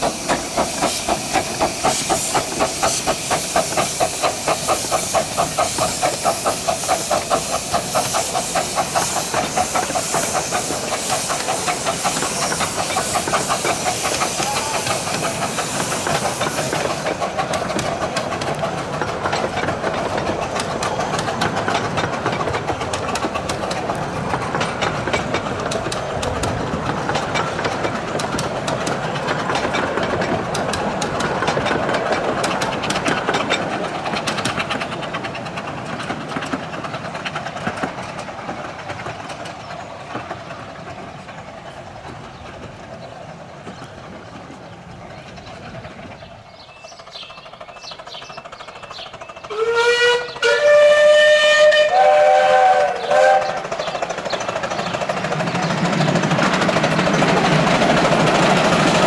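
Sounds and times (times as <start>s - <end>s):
loud steam hiss: 0.0s - 40.9s, 50.4s - 59.0s
wheels clattering over track: 0.0s - 51.4s, 52.0s - 59.0s
steam locomotive exhaust beats: 0.0s - 59.0s.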